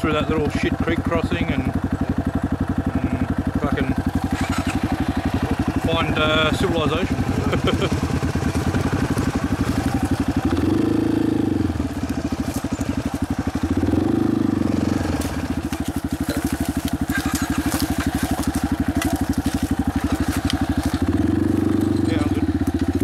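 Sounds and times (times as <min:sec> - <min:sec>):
gravel crackling under tyres: 0:00.0 - 0:23.0
vehicle engine at low revs: 0:00.0 - 0:23.0.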